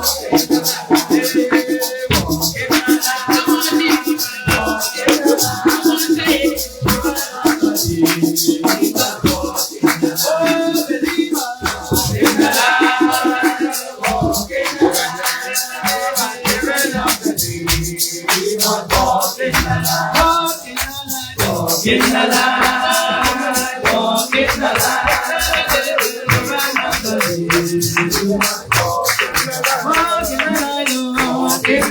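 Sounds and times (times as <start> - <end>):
upbeat music with singing: 0.0 - 31.9.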